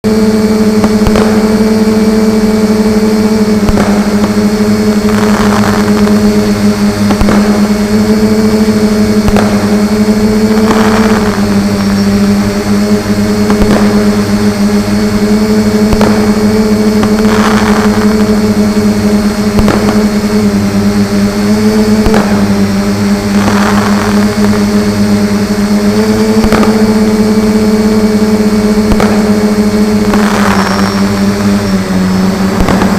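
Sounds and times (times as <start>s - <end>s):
fireworks hissing and crackling: 0.0s - 32.9s
fireworks popping: 0.0s - 32.9s
loud engine drone: 0.0s - 32.9s.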